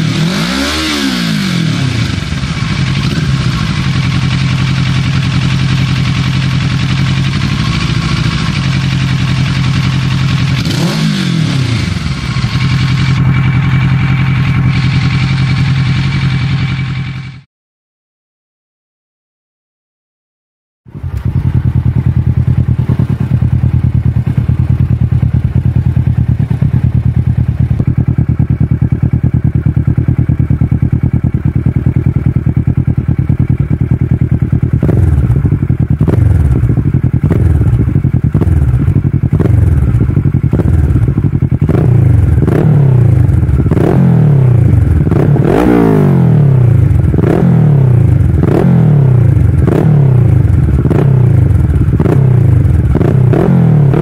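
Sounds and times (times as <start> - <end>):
motorcycle engine idling: 0.0 - 17.5, 20.9 - 54.0
motorcycle engine revving: 0.0 - 17.5, 20.9 - 54.0.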